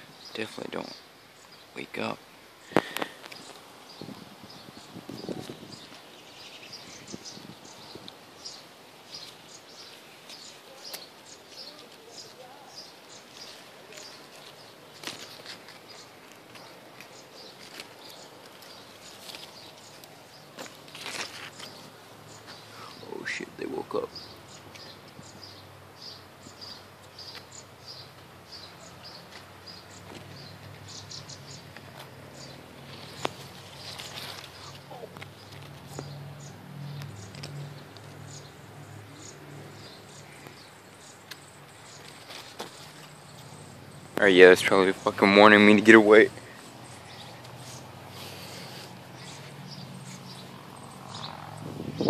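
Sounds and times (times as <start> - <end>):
small bird chirping: 0.0 - 52.0.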